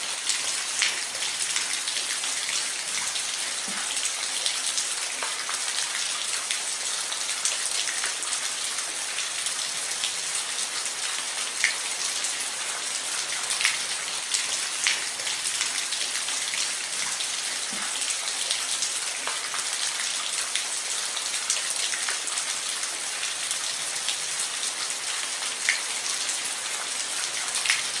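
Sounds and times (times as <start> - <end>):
rain hissing on a roof: 0.0 - 28.0.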